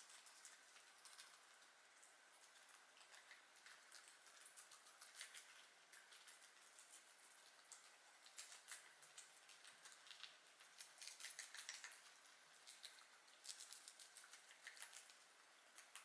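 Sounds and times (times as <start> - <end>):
guinea pigs chewing: 0.0 - 16.0.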